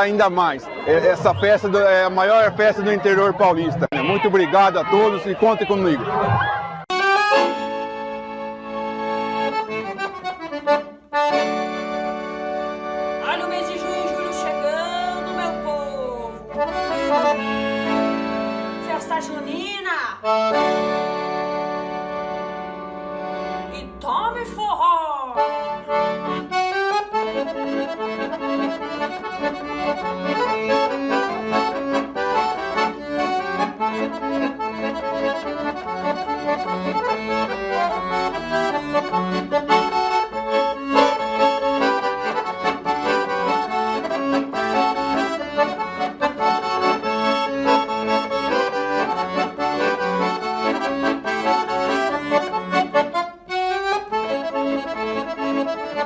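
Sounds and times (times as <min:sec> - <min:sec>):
accordion dance music: 0:00.0 - 0:56.0.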